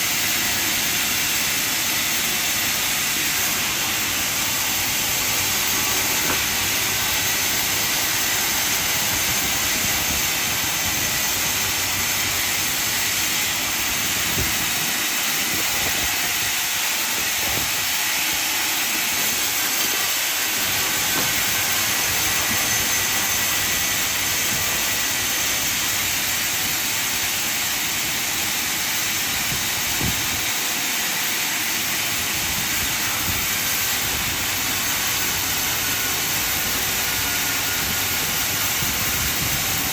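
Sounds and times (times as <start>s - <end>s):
band saw cutting timber: 0.0s - 39.9s.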